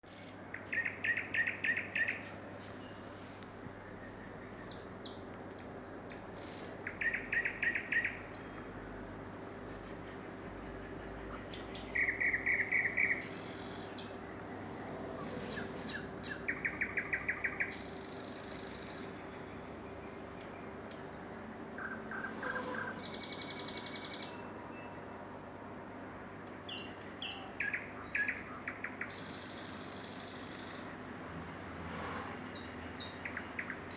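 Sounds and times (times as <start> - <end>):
songbird trills: 0.1 - 3.0, 4.0 - 9.1, 10.5 - 25.0, 26.2 - 31.0.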